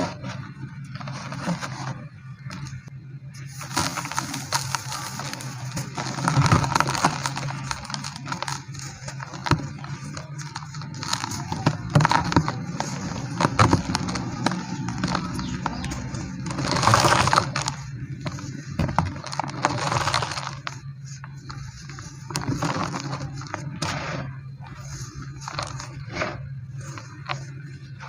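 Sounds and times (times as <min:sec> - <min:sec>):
cement chunks crunching: 0:00.0 - 0:28.0
steady low hum: 0:00.0 - 0:28.0.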